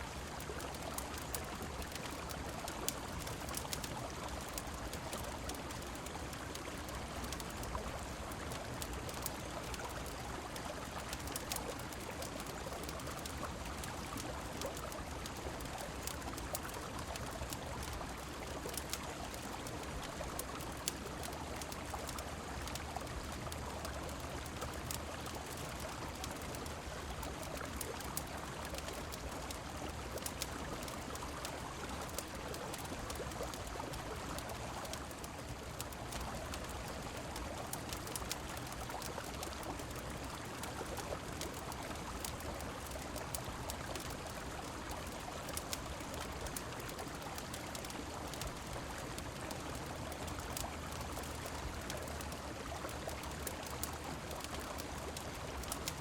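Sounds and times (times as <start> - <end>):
falling rain: 0.0 - 56.0
wood fire crackling: 0.1 - 56.0.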